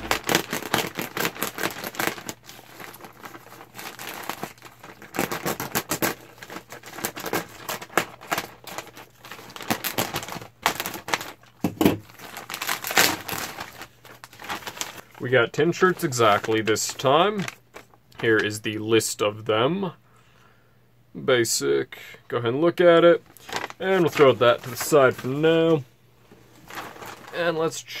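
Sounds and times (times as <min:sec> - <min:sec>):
packaging crinkling and tearing: 0:00.0 - 0:18.6, 0:23.3 - 0:25.8, 0:26.4 - 0:27.8.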